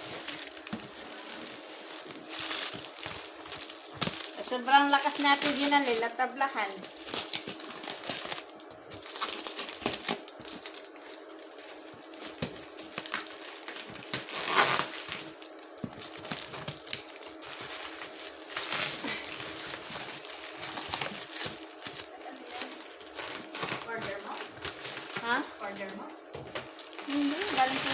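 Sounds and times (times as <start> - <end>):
packaging crinkling and rustling: 0.0 - 27.9.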